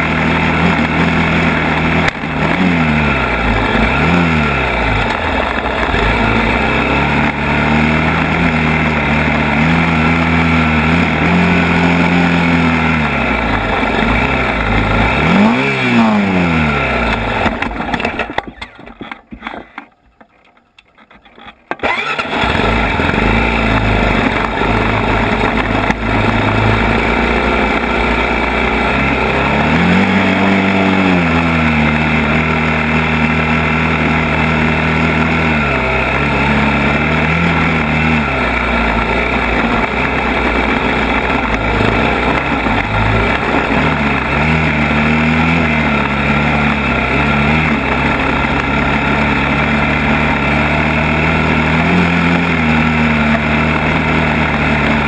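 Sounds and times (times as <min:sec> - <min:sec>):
atv engine revving: 0:00.0 - 0:19.8, 0:21.3 - 0:55.0.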